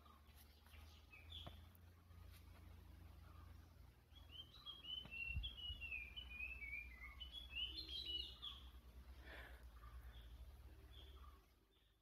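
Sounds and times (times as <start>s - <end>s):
bird singing faintly: 0.0s - 12.0s.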